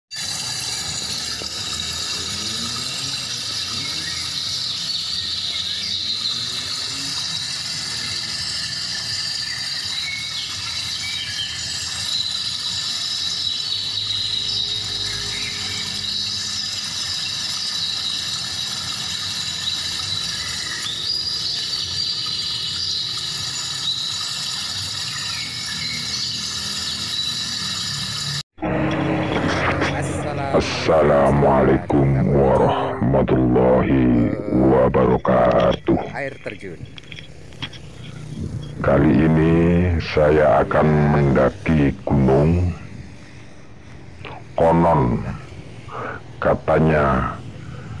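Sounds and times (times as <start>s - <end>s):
insect drone: 0.1s - 48.0s.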